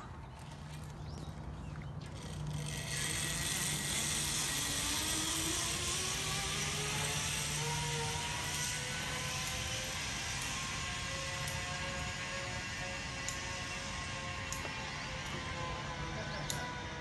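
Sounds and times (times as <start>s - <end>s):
zip-line trolley whirring on cable: 2.1s - 17.0s.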